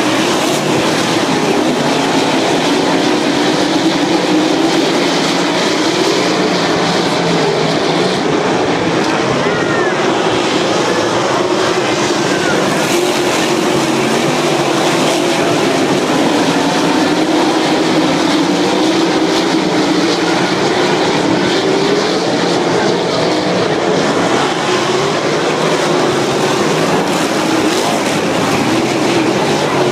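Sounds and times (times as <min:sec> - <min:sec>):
race car engines droning: 0:00.0 - 0:29.9.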